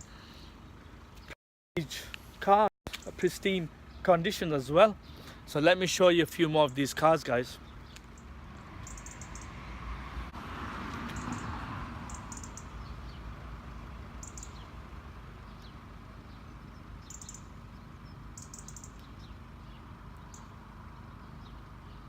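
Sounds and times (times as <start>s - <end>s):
small birds chirping: 0.0s - 1.4s, 2.0s - 9.7s, 11.1s - 11.5s, 12.1s - 22.0s.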